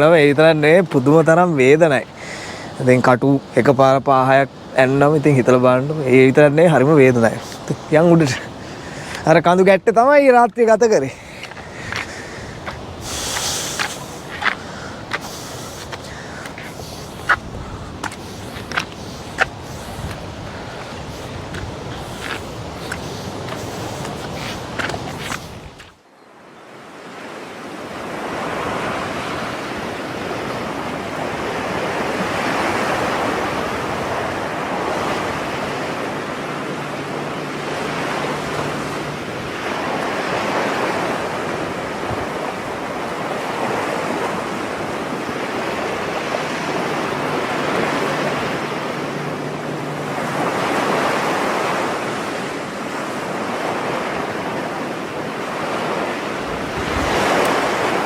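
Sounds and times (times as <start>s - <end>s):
sea surf washing onto shore: 0.0s - 58.0s.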